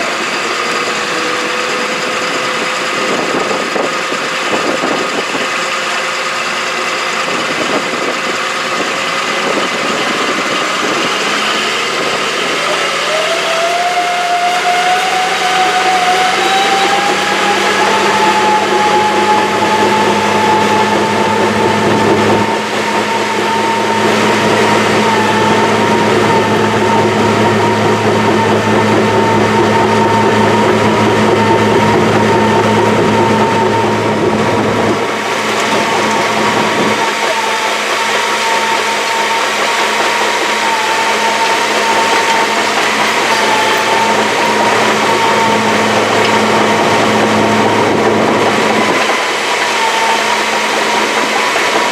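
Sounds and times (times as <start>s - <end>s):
machine engine running with whine: 0.0s - 51.9s.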